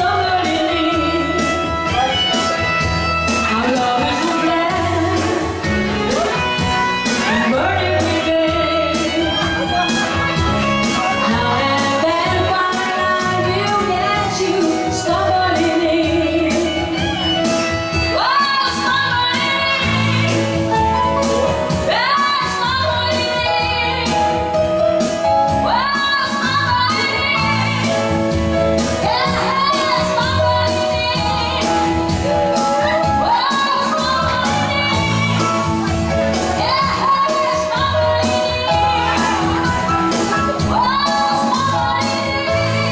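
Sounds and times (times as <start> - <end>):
instrumental accompaniment with beat: 0.0 - 42.9
woman singing pop song: 0.0 - 42.9.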